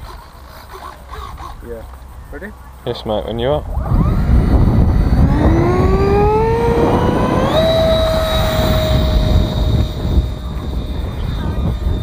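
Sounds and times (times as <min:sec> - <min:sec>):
electric ducted fan whine: 0:00.0 - 0:12.0.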